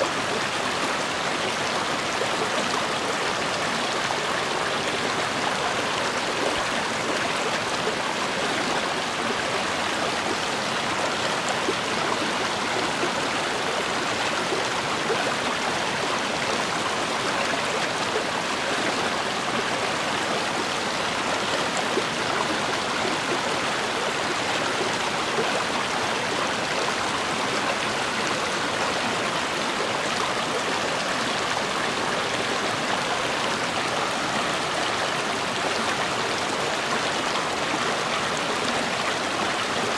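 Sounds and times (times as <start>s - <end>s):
stream water rushing and babbling: 0.0s - 39.9s.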